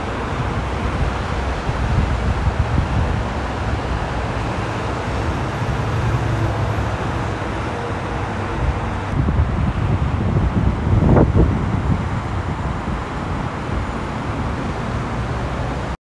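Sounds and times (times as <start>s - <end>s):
engine rumble: 0.0s - 16.0s
low engine drone: 0.0s - 16.0s.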